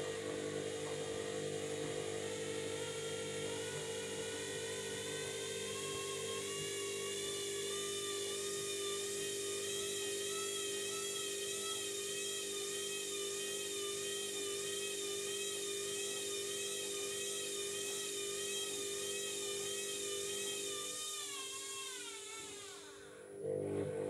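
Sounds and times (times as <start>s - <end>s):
washing machine spinning whine: 0.0s - 24.0s.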